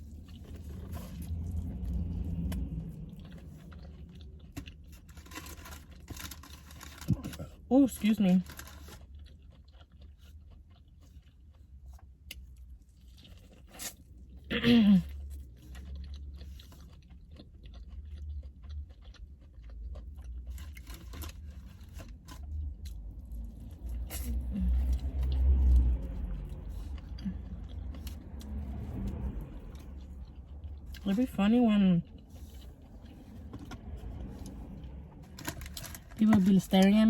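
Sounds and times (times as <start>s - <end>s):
chewing crunchy fried chicken: 0.0s - 37.0s.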